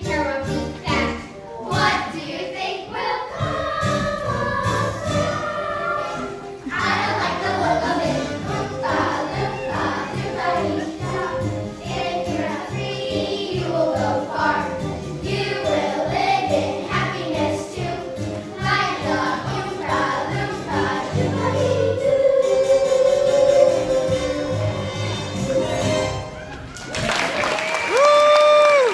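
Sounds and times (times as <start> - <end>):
chorus singing together: 1.4 - 25.0.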